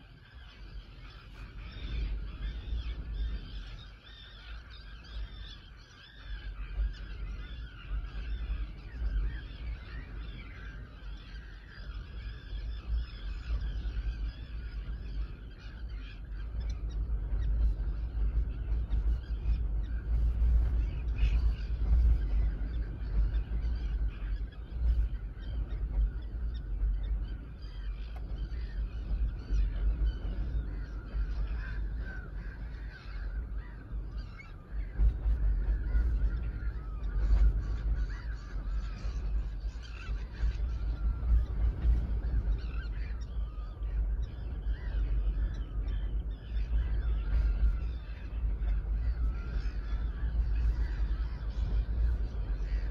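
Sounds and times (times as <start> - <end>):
faint bird calls: 0.0 - 52.9
wind rumble on microphone: 0.0 - 52.9.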